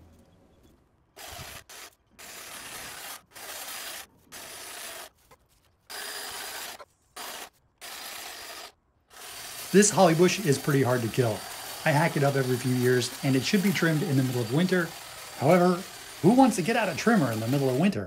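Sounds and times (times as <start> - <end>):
hedge trimmer cutting: 1.2 - 18.0.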